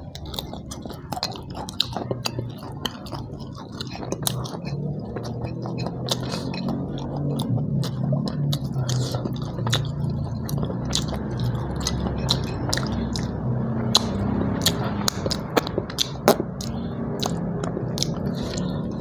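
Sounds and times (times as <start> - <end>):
man chewing noisily: 0.0 - 19.0
steady low hum: 0.0 - 19.0.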